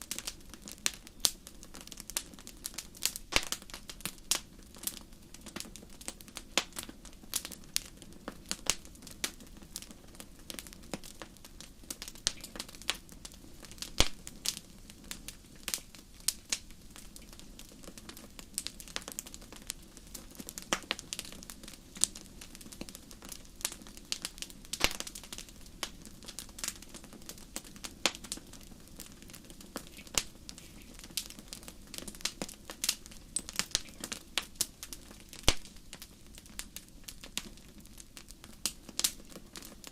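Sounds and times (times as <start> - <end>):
low noise of burning: 0.0 - 39.9
wood fire crackling: 0.0 - 39.9.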